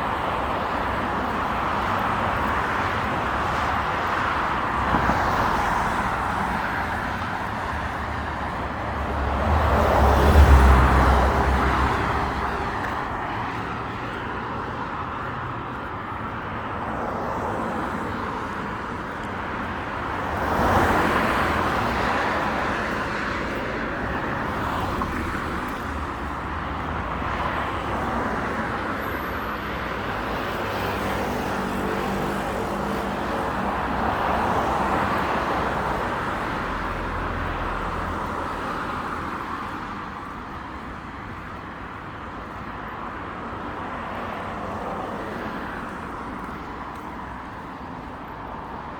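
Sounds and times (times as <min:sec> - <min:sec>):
passing cars: 0:00.0 - 0:48.9.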